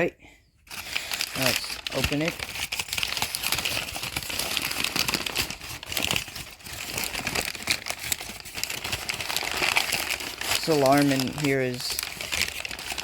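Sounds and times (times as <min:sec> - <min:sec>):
cardboard box crinkling and rustling: 0:00.7 - 0:13.0.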